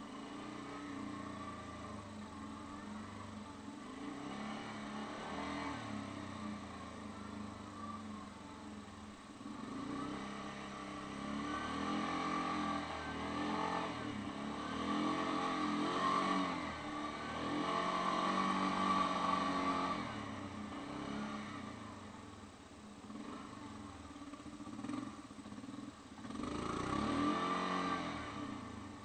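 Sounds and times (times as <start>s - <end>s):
atv engine revving: 0.0s - 29.0s.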